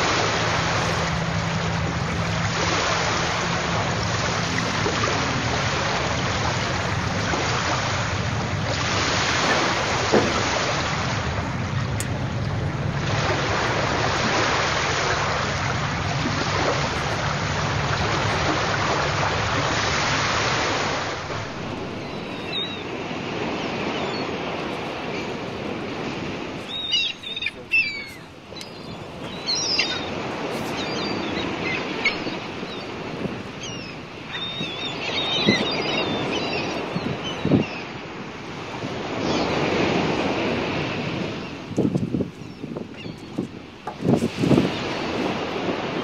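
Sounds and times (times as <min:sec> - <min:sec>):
water lapping: 0:00.0 - 0:46.0
wind: 0:00.0 - 0:46.0.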